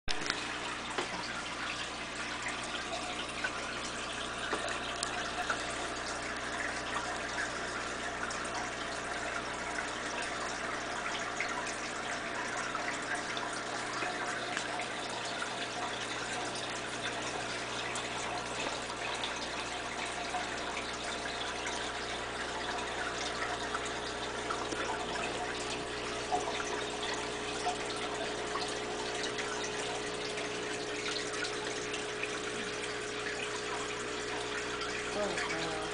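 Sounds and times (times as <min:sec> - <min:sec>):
aquarium water trickling: 0:00.1 - 0:35.9
faint steady hum: 0:00.1 - 0:35.9.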